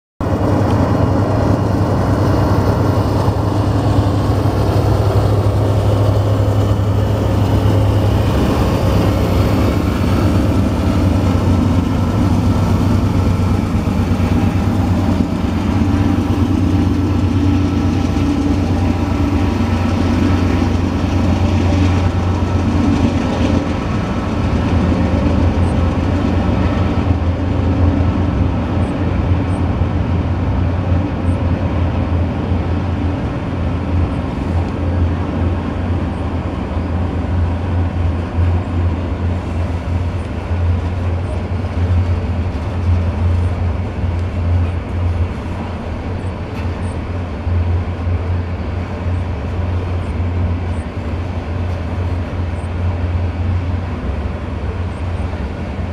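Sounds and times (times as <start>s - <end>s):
diesel locomotives running: 0.2s - 55.9s
train cars rumbling on rails: 0.2s - 55.9s.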